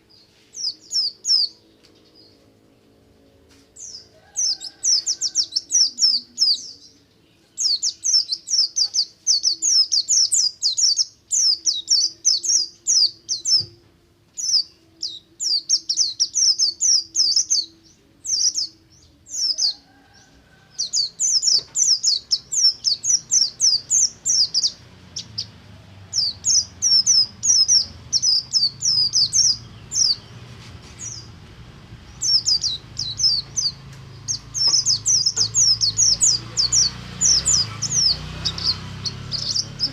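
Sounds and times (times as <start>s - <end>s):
bird singing high chirps: 0.0s - 2.4s, 3.8s - 39.9s.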